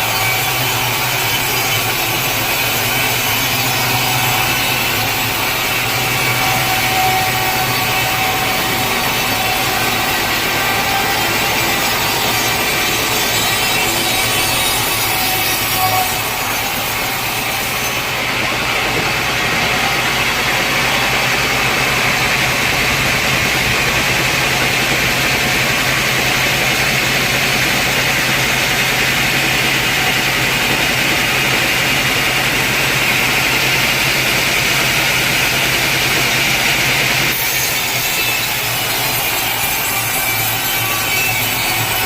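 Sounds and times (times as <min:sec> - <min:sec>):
saw whining through log: 0:00.0 - 0:42.0.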